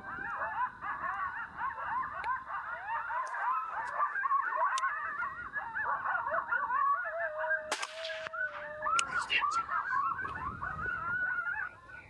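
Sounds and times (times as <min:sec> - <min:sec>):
coyotes yipping and howling: 0:00.0 - 0:12.0.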